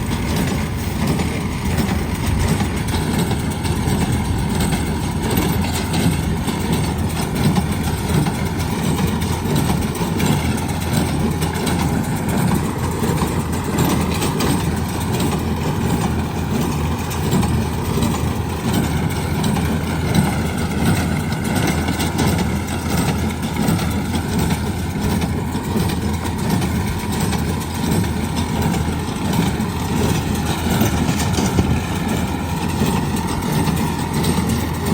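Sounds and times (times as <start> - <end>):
tractor engine running baler: 0.0 - 34.9.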